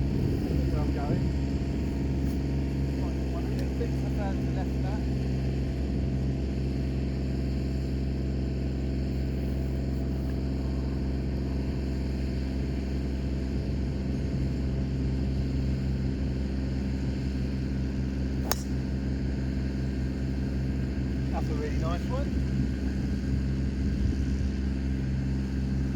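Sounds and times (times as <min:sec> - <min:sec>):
low machine-like hum: 0:00.0 - 0:25.9.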